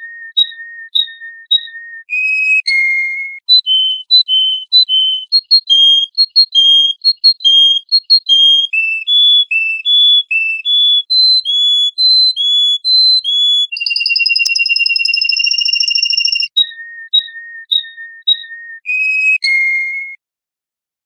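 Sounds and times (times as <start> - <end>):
songbird singing: 0.0 - 20.2.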